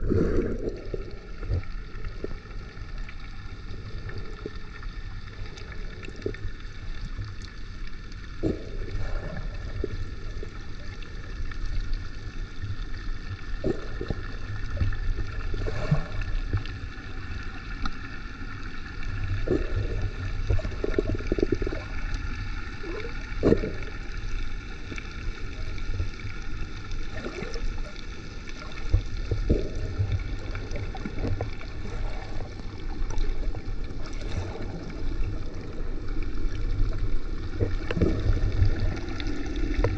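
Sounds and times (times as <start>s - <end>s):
muffled underwater water rumble: 0.0s - 39.9s
water gurgles: 0.0s - 39.9s.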